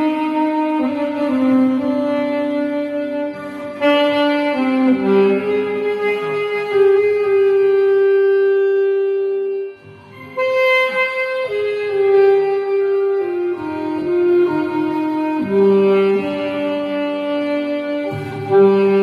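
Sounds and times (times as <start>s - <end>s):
saxophone ballad melody: 0.0s - 19.0s.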